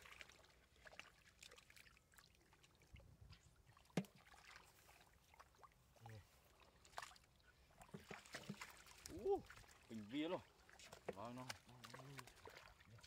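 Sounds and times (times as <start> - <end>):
hands sloshing in shallow water: 0.0 - 13.0.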